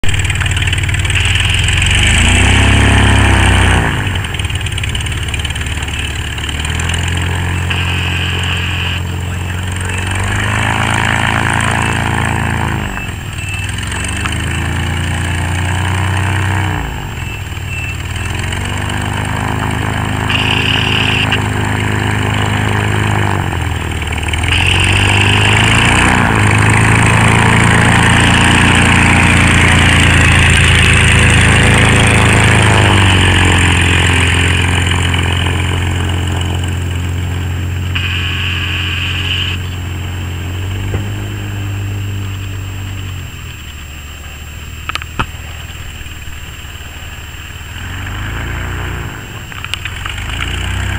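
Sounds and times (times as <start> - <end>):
gyroplane engine and propeller: 0.0 - 50.9.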